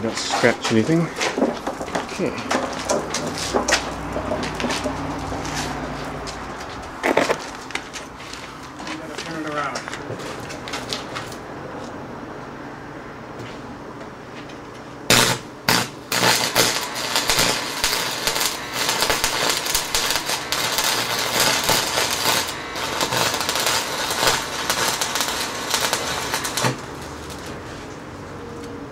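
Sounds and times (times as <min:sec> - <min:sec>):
arc welder crackling: 0:00.0 - 0:12.0, 0:15.1 - 0:28.9.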